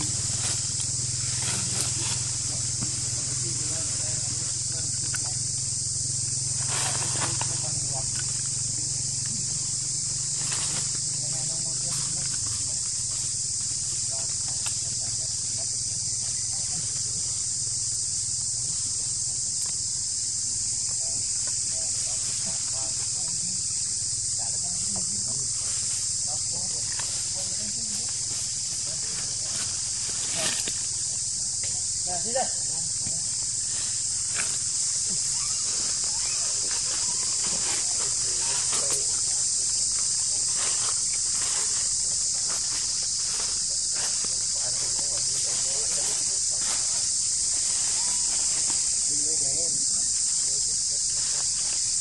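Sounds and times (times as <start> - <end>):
insect chorus buzzing: 0.0 - 52.0.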